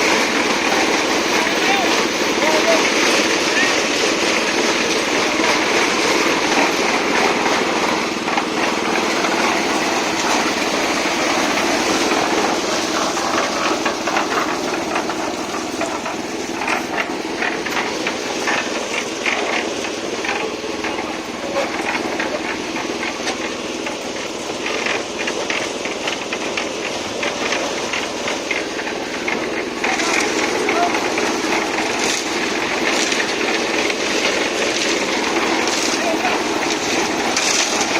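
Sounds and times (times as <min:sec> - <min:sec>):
small engine running: 0:00.0 - 0:37.9.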